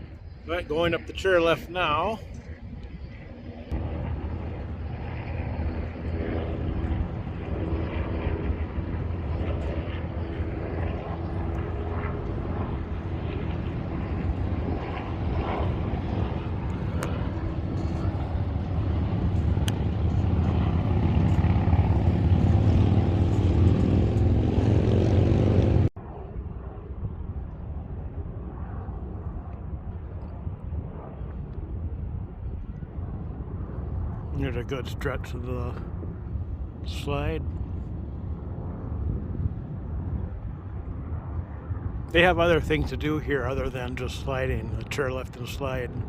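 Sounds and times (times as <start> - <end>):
low engine drone: 0.0 - 46.0.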